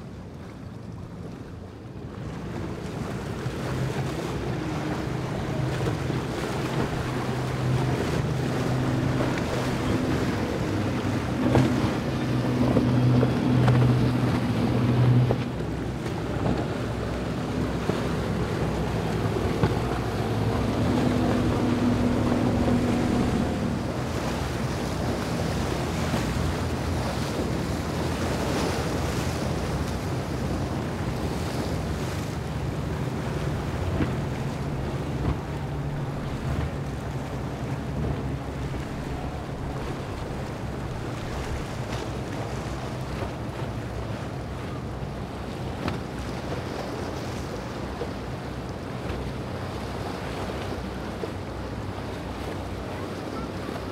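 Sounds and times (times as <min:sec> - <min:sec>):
boat engine drone: 0:00.0 - 0:53.9
spray and waves rushing: 0:01.1 - 0:53.9
wind on microphone: 0:02.3 - 0:47.4.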